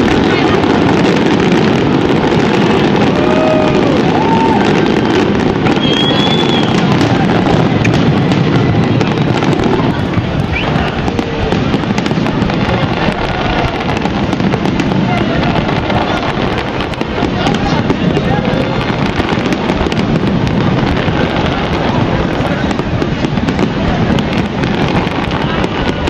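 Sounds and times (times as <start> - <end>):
fireworks crackling and popping: 0.0 - 26.0
fireworks whistling: 0.0 - 26.0.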